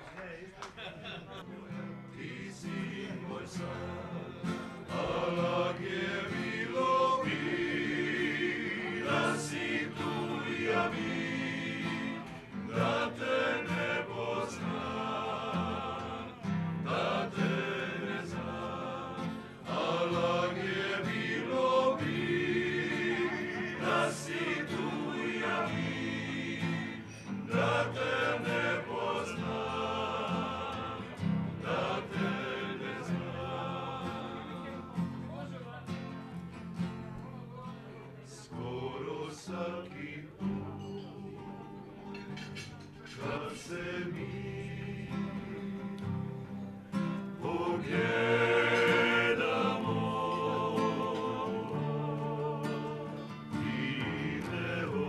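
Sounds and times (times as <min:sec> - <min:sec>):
men singing in harmony: 0:01.4 - 0:35.2, 0:38.5 - 0:42.3, 0:43.1 - 0:55.0
strummed acoustic guitar: 0:01.4 - 0:55.0.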